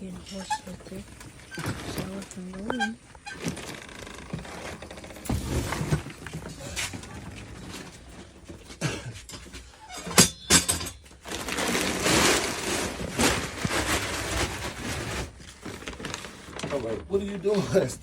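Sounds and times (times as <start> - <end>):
rustling and handling noise: 0.0 - 18.0.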